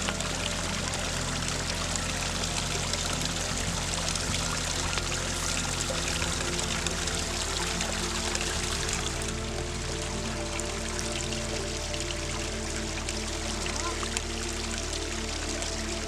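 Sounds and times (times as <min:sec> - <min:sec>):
background music with low tones: 0:00.0 - 0:16.0.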